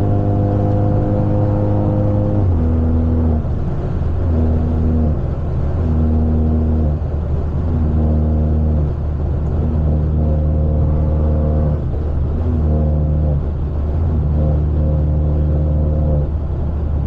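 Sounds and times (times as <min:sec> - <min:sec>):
car exhaust droning: 0:00.0 - 0:17.0
higher hum: 0:00.0 - 0:17.0.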